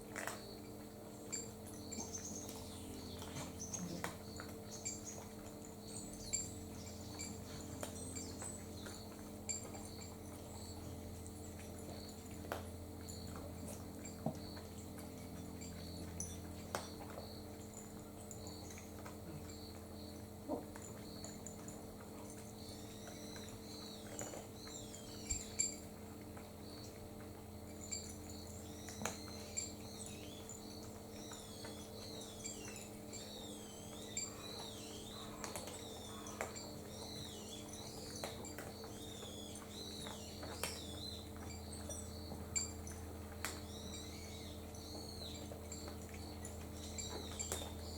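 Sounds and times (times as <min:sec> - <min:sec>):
cats eating from bowls: 0:00.0 - 0:47.9
steady low hum: 0:00.0 - 0:47.9
small birds chirping: 0:00.1 - 0:47.9.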